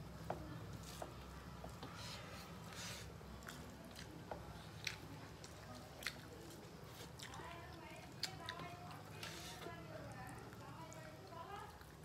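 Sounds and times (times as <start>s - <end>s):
hands mixing rice squishing: 0.0s - 12.0s.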